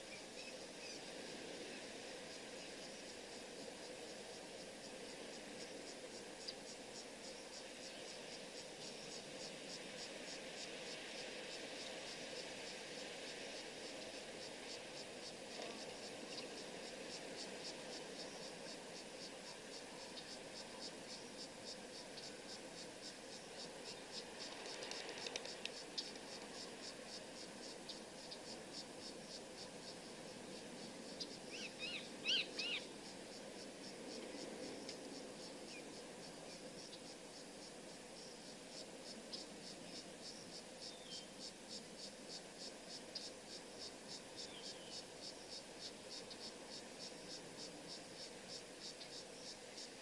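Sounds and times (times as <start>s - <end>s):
faint hiss: 0.0s - 50.0s
insects chirping: 0.0s - 50.0s.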